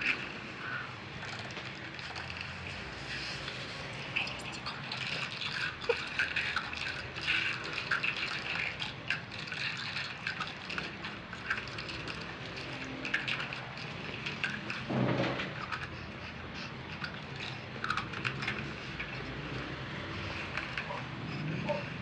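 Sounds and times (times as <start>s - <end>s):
wet slurping mouth sounds: 0.0s - 22.0s.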